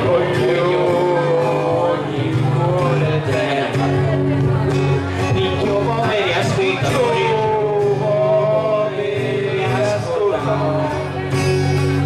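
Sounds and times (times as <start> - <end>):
man singing slow song: 0.0 - 12.0
strummed acoustic guitar: 0.0 - 12.0.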